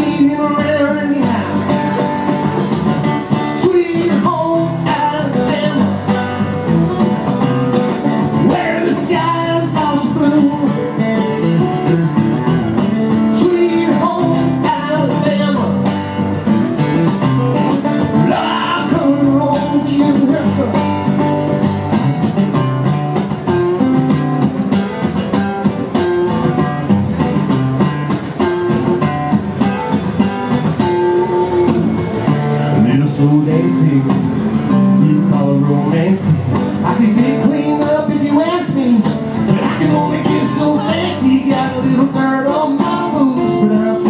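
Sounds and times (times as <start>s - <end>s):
country-rock band guitars: 0.0s - 44.0s.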